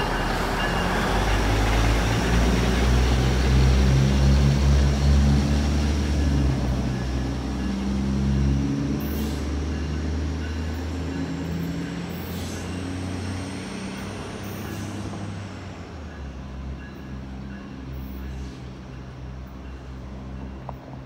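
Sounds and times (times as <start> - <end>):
diesel train engine drone: 0.0 - 21.0.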